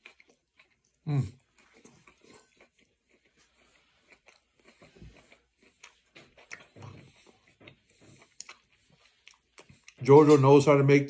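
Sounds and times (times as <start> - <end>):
close-up chewing: 0.0 - 10.3.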